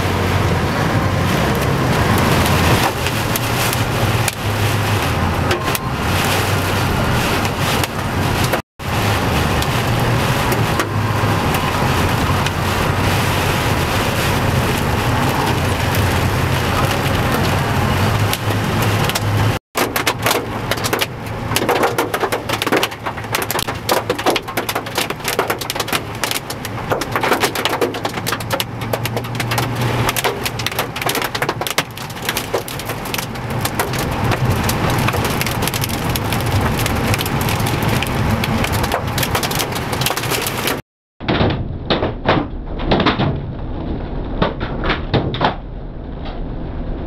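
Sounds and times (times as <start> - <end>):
car engine humming: 0.0 - 40.8
rain and hail on car roof: 0.0 - 45.7.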